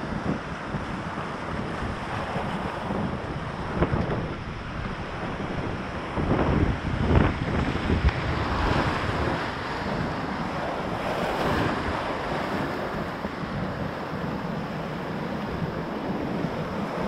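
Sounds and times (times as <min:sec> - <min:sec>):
whitewater rushing: 0:00.0 - 0:17.0
wind buffeting microphone: 0:00.0 - 0:17.0.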